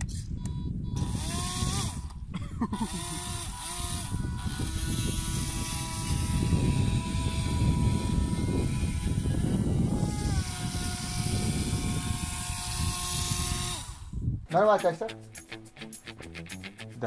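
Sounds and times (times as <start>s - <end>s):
electric motor buzzing whine: 0.4s - 14.2s.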